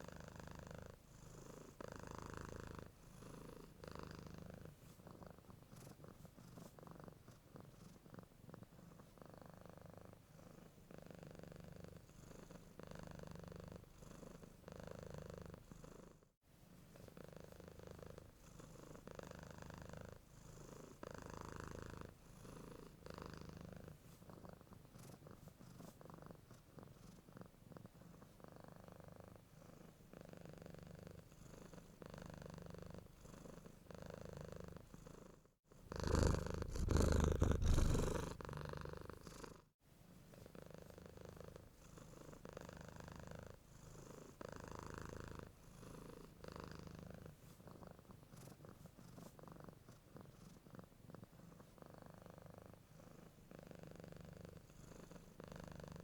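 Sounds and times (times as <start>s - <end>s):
cat purring: 0.0s - 16.2s, 16.8s - 56.0s.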